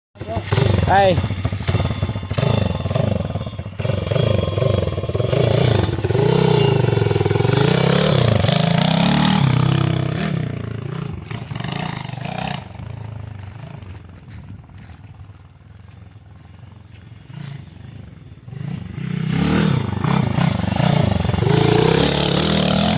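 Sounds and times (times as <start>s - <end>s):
motorbike engine revving hard: 0.2s - 14.2s, 17.3s - 22.9s.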